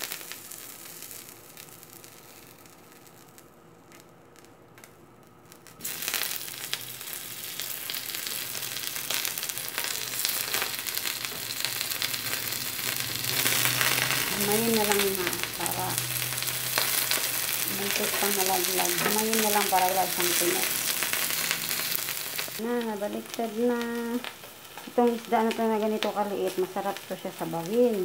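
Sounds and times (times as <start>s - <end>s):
fish sizzling on a grill pan: 0.0s - 4.0s, 5.6s - 28.0s.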